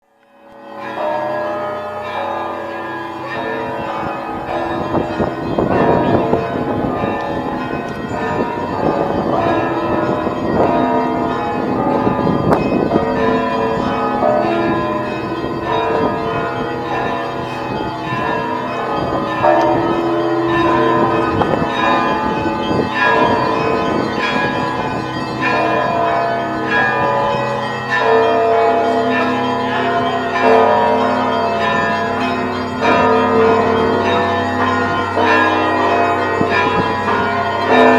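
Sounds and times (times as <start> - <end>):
church bells pealing: 0.1 - 37.9.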